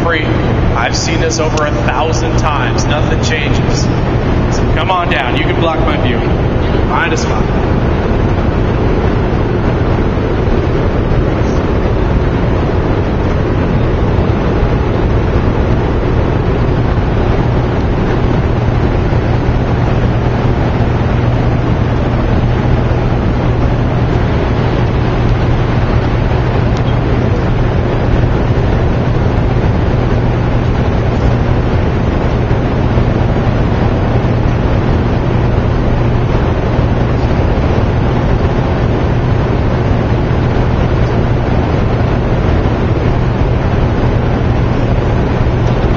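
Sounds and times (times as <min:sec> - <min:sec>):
constant rushing noise: 0:00.0 - 0:45.9
generators droning: 0:00.0 - 0:45.9.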